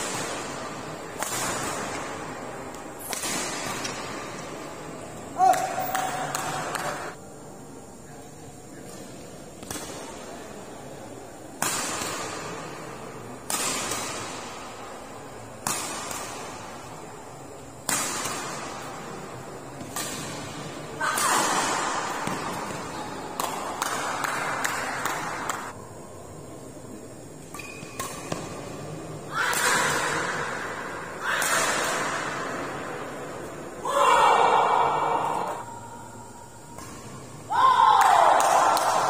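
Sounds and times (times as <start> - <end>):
rackets hitting shuttlecock: 0.0 - 7.2, 8.8 - 10.4, 11.5 - 25.8, 27.4 - 33.6, 36.7 - 39.0.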